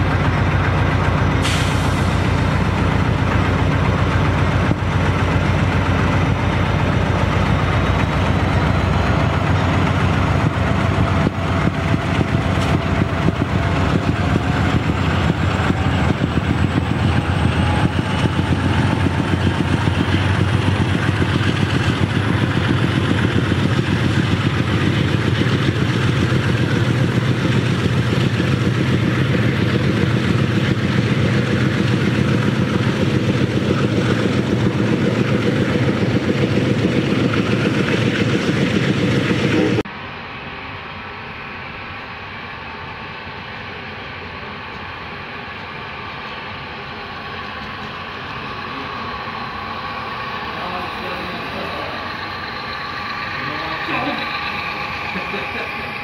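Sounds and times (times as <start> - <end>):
model train cars on track: 0.0 - 56.0
model train engine rumbling: 0.0 - 56.0.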